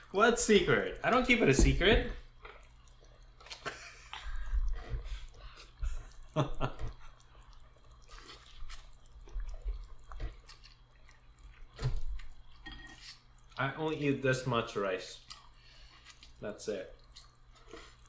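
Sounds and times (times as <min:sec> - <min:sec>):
food chewing: 0:01.0 - 0:13.6, 0:15.2 - 0:18.0.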